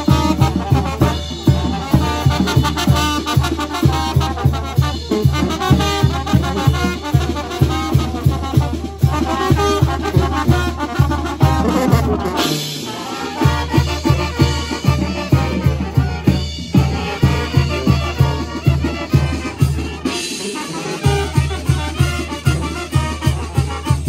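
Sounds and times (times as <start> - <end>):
brass band playing dance tune: 0.0 - 24.0.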